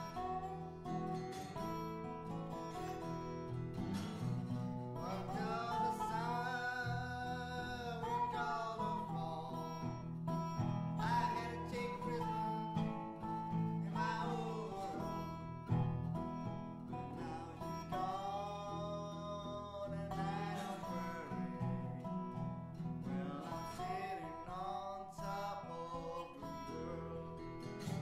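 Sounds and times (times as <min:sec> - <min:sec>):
acoustic guitar blues music: 0:00.0 - 0:28.0.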